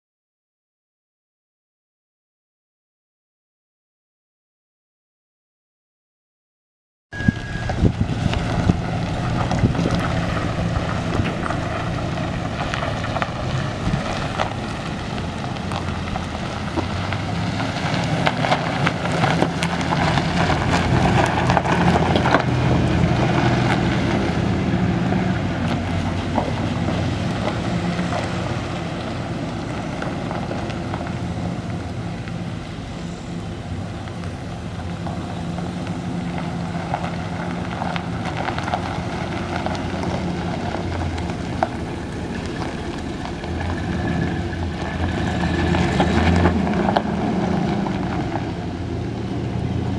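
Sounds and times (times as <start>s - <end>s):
pickup truck engine running: 7.2s - 49.9s
tyres crunching on gravel: 7.2s - 49.9s.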